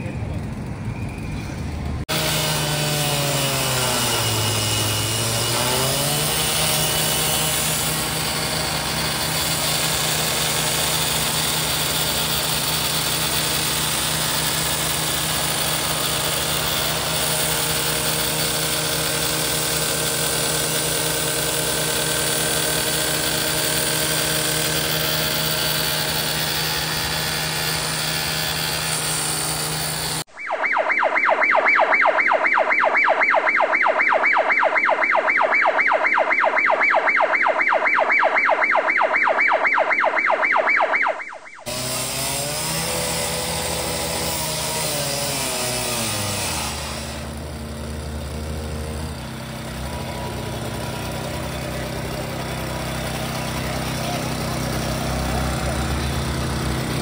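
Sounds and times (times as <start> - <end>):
cutting tool engine running: 0.0 - 30.3, 41.6 - 57.0.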